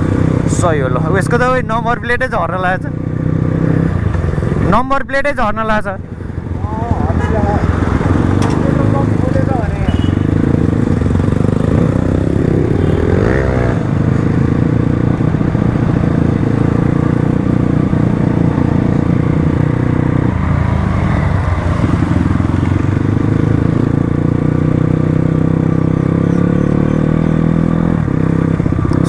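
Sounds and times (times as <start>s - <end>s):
dirt bike engine revving: 0.0s - 1.8s, 2.8s - 4.8s, 6.1s - 29.0s.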